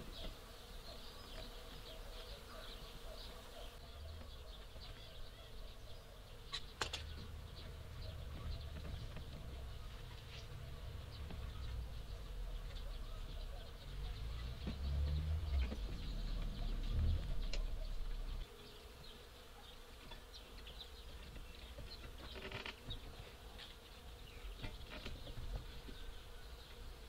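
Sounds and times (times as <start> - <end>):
insects buzzing: 0.0 - 13.4, 14.0 - 27.0.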